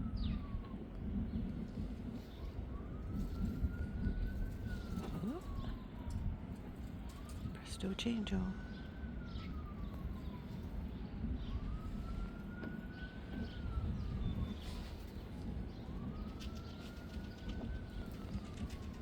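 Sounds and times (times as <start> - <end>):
distant siren wailing: 0.0 - 19.0
wind rumble on microphone: 0.0 - 19.0.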